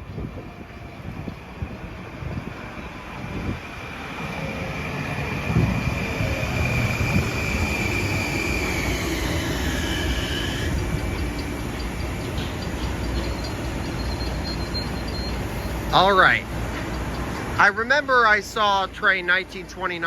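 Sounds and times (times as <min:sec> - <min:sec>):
electric train whine: 0:00.0 - 0:19.4
train rumble: 0:00.0 - 0:20.0.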